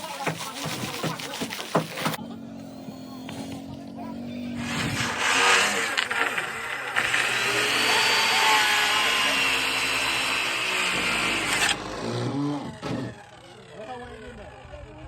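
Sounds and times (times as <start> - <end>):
power tool working on wood: 0.0 - 14.8.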